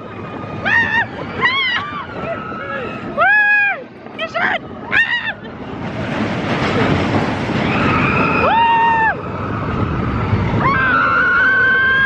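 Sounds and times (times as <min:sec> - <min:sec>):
roller coaster roaring on track: 0:00.0 - 0:12.0.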